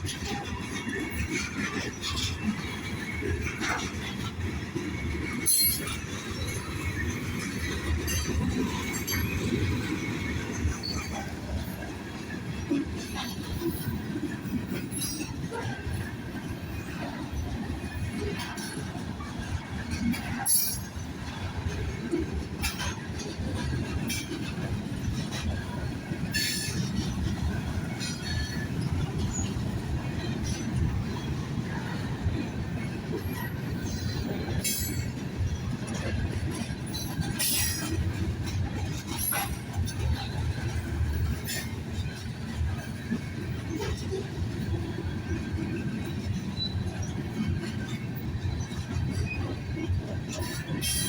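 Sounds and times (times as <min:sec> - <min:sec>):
train cars rumbling on track: 0:00.0 - 0:51.0
train clanks: 0:00.0 - 0:51.0.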